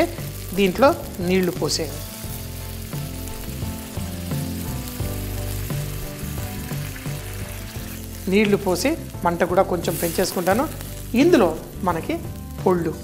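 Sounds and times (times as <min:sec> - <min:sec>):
paste sizzling in pan: 0:00.0 - 0:13.0
soft instrumental music: 0:00.0 - 0:13.0.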